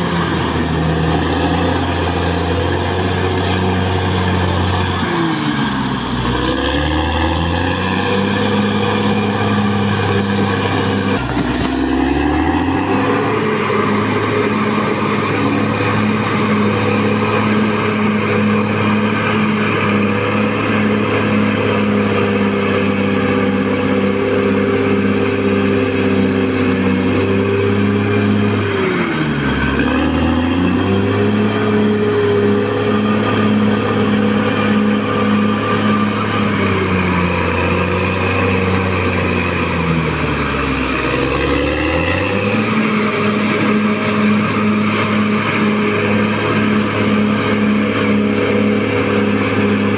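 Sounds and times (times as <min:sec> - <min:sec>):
bulldozer diesel engine running: 0:00.0 - 0:49.9.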